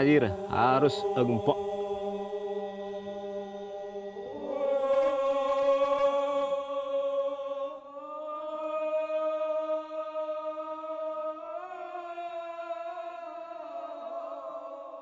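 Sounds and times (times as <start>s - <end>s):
chant in long held notes: 0.0s - 15.0s.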